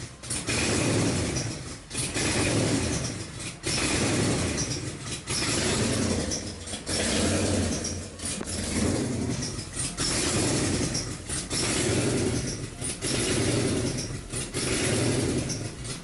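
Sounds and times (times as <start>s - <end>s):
car engine idling with surge: 0.0s - 16.0s.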